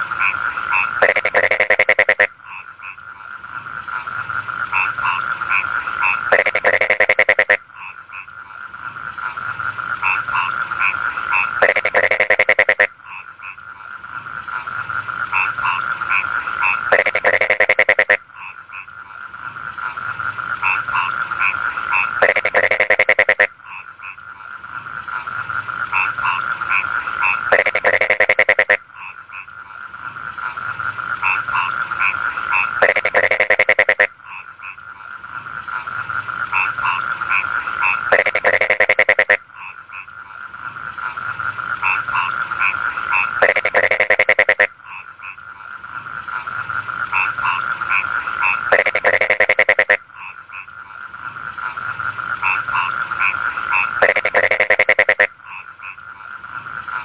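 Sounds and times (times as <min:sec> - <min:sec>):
fast rattling frog croak: 0:00.0 - 0:57.0
frogs calling: 0:00.0 - 0:57.0.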